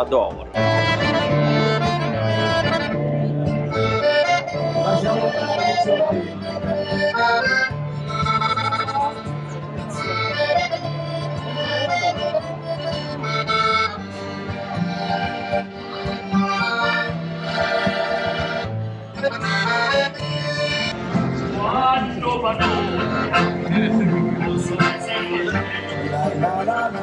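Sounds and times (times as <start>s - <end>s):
accordion chords: 0.0s - 27.0s
acoustic guitar bass: 0.0s - 27.0s.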